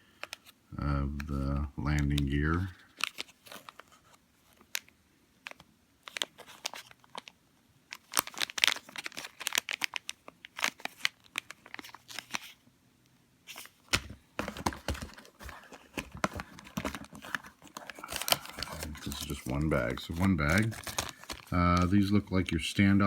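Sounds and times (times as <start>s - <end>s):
plastic bags crinkling: 2.2s - 12.6s, 13.5s - 22.9s.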